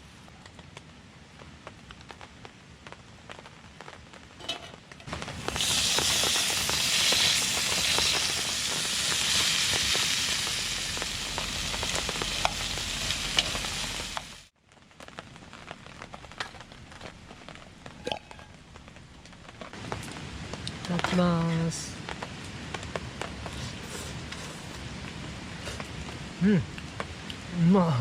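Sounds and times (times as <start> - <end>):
food sizzling and crackling: 3.3 - 27.5.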